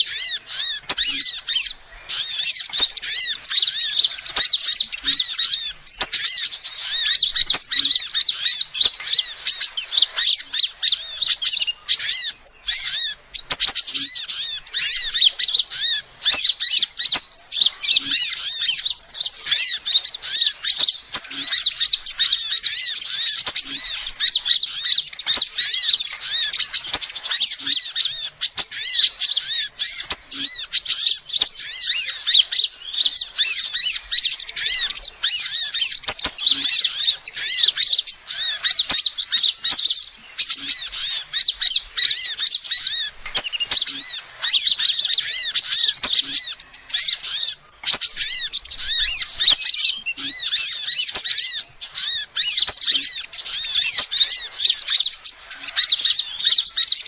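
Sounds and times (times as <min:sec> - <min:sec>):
bird chirping and twittering: 0:00.0 - 0:57.0.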